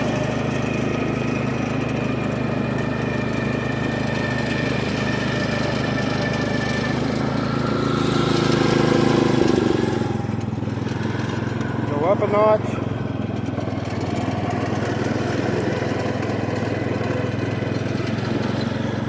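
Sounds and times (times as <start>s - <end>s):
riding lawn mower engine: 0.0s - 19.0s.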